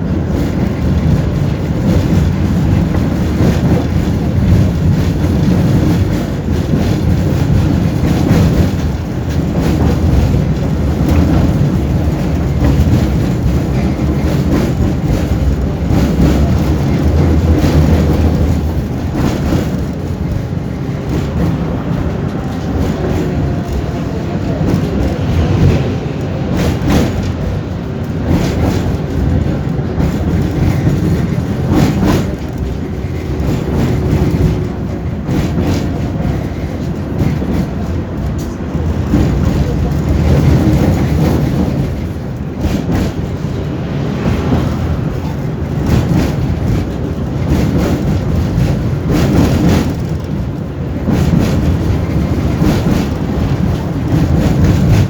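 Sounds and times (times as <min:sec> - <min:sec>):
tram rumbling: 0:00.0 - 0:55.0
wheels clacking over rail joints: 0:00.0 - 0:55.0.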